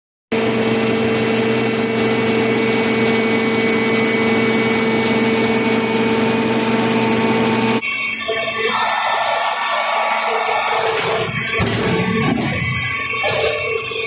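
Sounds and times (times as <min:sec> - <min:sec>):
hydraulic power unit whining hum: 0:00.3 - 0:14.0.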